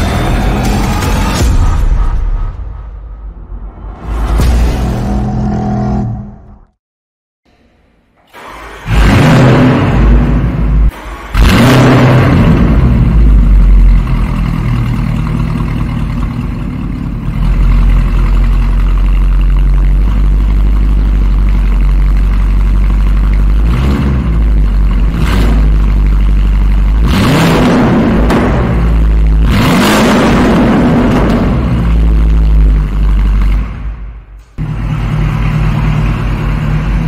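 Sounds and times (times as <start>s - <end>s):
car engine revving and idling: 0.0s - 1.8s, 8.3s - 37.0s.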